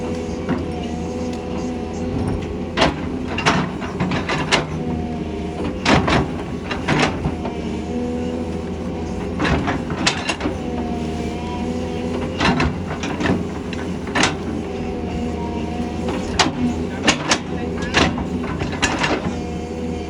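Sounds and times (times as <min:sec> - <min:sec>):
excavator bucket clanking: 0:00.0 - 0:20.0
excavator diesel engine: 0:00.0 - 0:20.0.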